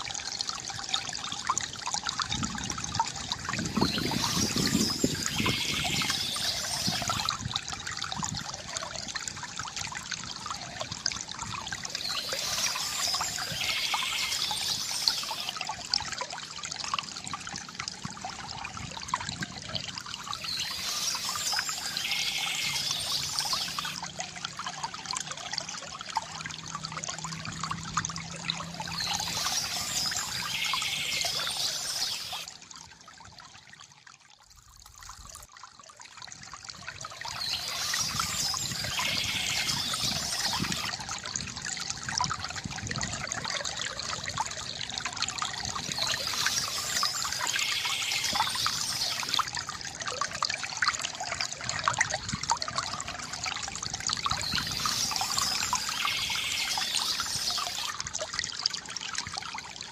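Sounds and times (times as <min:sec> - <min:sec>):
gurgling pour: 0:00.0 - 0:59.9
water trickling from a fountain: 0:00.0 - 0:59.9.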